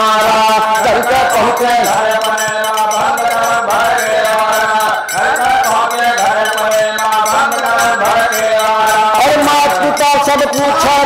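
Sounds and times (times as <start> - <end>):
men singing chant-like line: 0.0 - 11.0
percussion strokes: 0.0 - 11.0.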